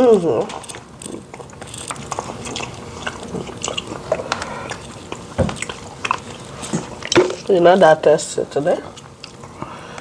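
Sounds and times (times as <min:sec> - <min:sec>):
chewing and wet mouth sounds: 0:00.0 - 0:10.0.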